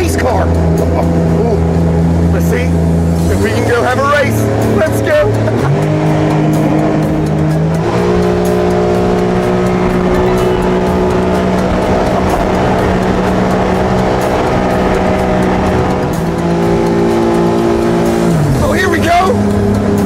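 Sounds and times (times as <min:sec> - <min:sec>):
background music: 0:00.0 - 0:20.0
boat engine drone: 0:00.0 - 0:20.0.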